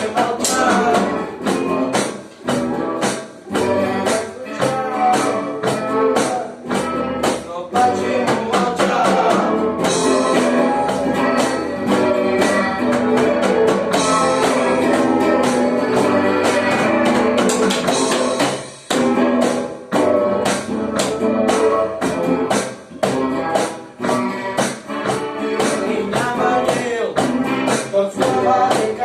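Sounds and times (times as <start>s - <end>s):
band playing guitar and drums: 0.0s - 29.0s.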